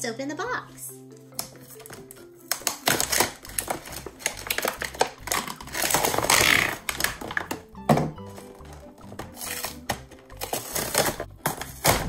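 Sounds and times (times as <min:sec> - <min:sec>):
plastic packaging crackling and clicking: 0:01.3 - 0:12.0.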